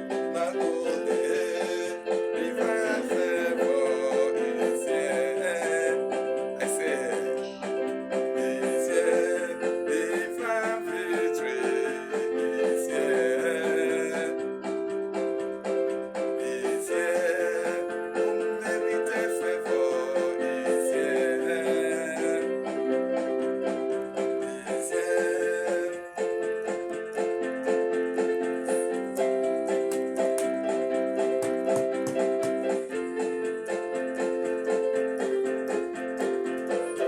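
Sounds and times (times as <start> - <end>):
electric piano chords: 0.0 - 37.0.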